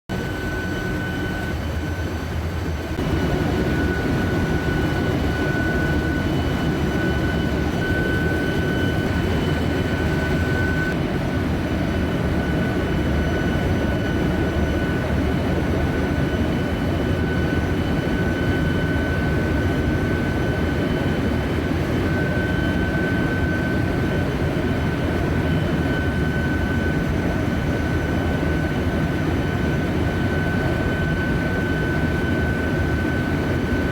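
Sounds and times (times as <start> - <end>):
engine room machinery rumble: 0.1 - 33.9
high-pitched machinery whine: 0.1 - 33.9.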